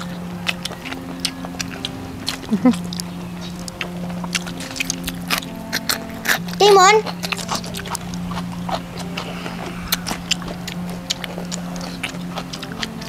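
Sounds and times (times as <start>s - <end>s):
wet clicks: 0.0s - 9.3s, 10.0s - 13.0s
chewing and lip smacks: 0.0s - 13.0s
steady low hum: 0.0s - 13.0s.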